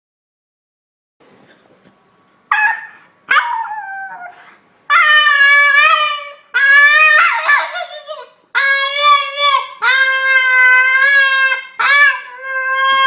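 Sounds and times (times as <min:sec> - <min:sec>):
dog howling: 0:02.5 - 0:13.0
dog yipping: 0:02.5 - 0:13.0.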